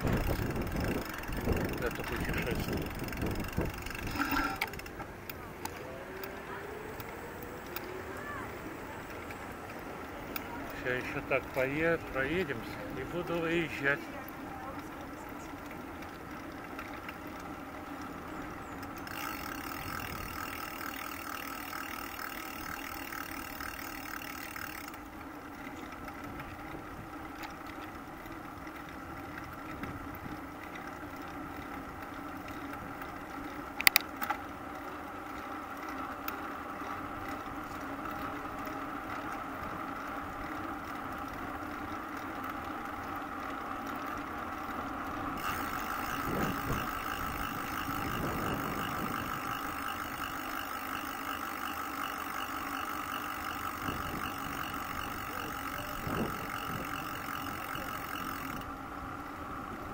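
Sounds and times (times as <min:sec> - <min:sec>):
bicycle rolling on asphalt: 0:00.0 - 0:59.9.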